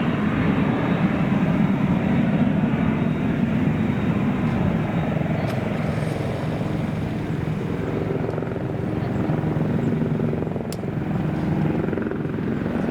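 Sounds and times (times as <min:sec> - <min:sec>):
aircraft engine with fast flutter: 0:00.0 - 0:12.9.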